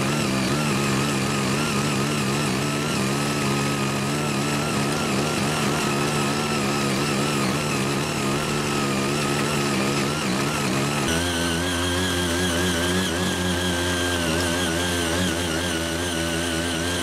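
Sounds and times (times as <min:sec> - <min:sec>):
mini tiller engine running: 0:00.0 - 0:17.0.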